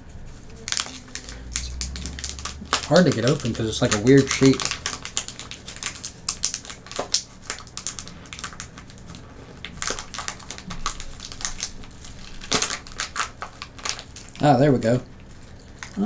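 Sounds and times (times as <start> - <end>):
plastic snack bag crinkling: 0.3 - 16.0.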